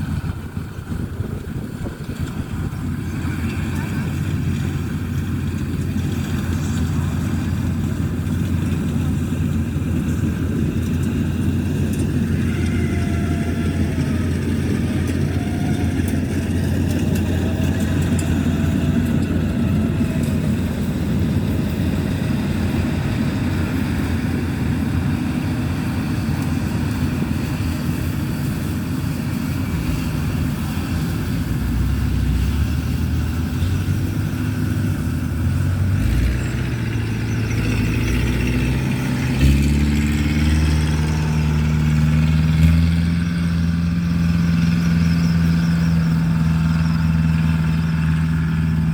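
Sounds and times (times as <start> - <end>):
combine harvester engine droning: 0.0 - 48.9.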